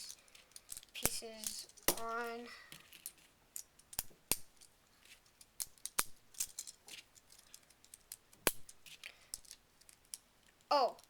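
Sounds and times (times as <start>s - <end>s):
plastic bricks clicking together: 0.0s - 11.0s.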